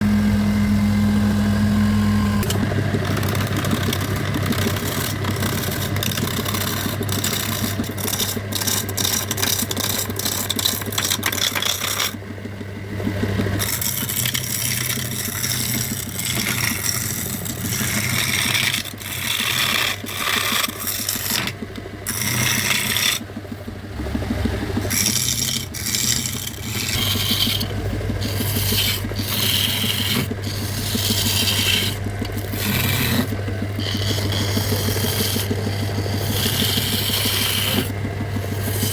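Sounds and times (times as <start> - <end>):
power tool motor humming: 0.0 - 12.2, 13.1 - 38.9
tool scraping wood: 0.0 - 38.9.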